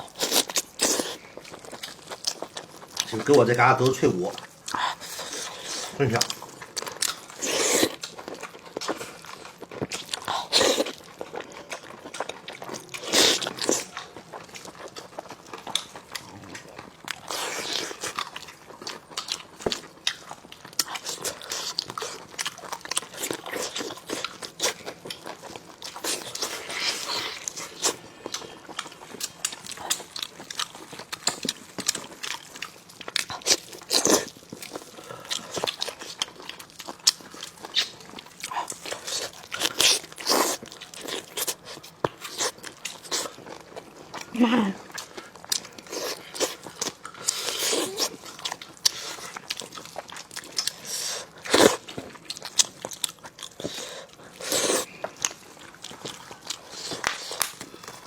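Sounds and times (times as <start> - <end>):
chewing meat: 0.0 - 58.0.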